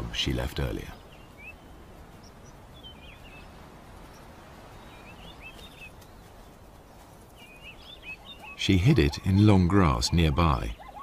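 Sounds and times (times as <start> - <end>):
small bird chirping: 0.4 - 11.0.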